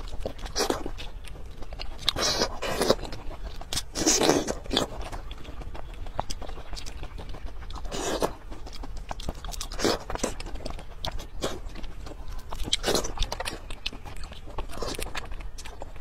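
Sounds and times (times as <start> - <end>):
chewing and mouth clicks: 0.0 - 16.0
crunchy bite: 0.0 - 16.0.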